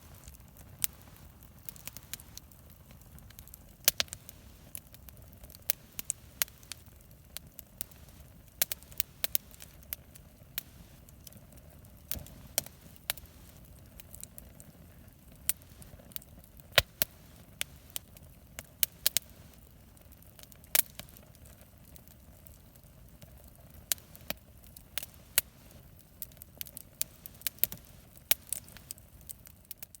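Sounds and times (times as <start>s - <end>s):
bonfire crackling: 0.0s - 30.0s
low rumble of flames: 0.0s - 30.0s
sharp pops from fire: 0.0s - 30.0s.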